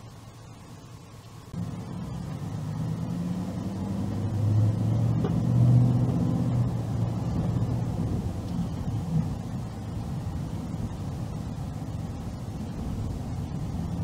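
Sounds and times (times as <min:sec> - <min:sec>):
car engine accelerating: 0:01.5 - 0:14.0.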